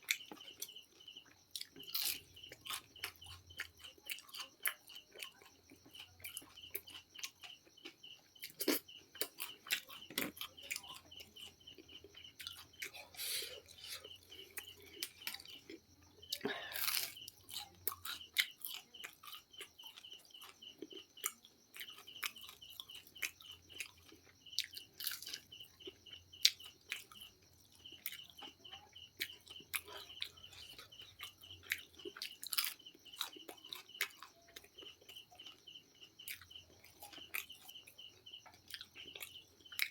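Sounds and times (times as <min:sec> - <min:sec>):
chewing and crunching fried chicken: 0:00.0 - 0:39.9.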